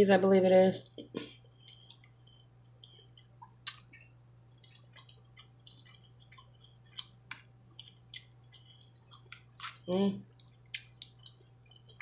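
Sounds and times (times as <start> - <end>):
chewing clicks and smacks: 1.6 - 12.0.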